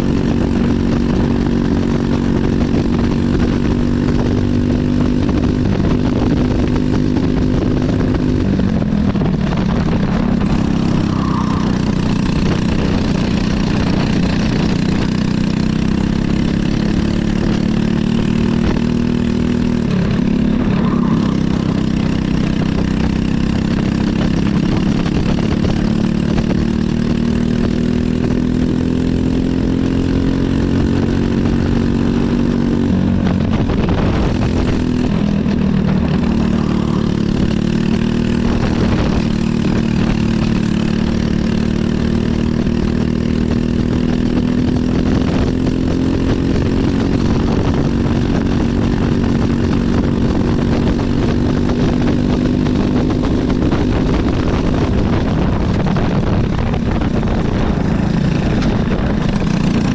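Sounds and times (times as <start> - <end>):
kart engine revving: 6.5 - 59.9.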